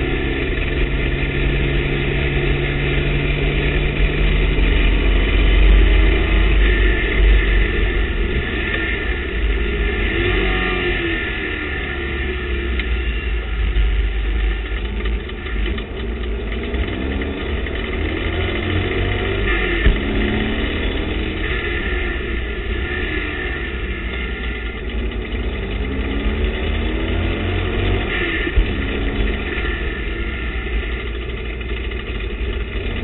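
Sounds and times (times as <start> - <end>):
race car engine revving through gears: 0.0 - 33.0
wind and road noise: 0.0 - 33.0.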